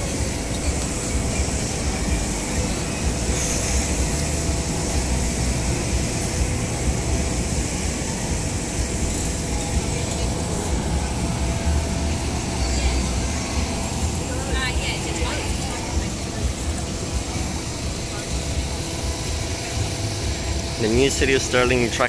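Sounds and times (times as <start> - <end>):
faint steady hum: 0.0 - 22.0
tyres and running gear rumbling: 0.0 - 22.0.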